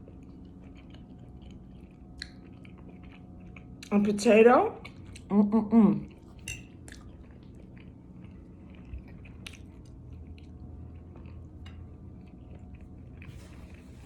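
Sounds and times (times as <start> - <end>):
person chewing food: 0.0 - 3.9, 4.8 - 5.3, 6.1 - 14.0
faint low hum: 0.0 - 14.0.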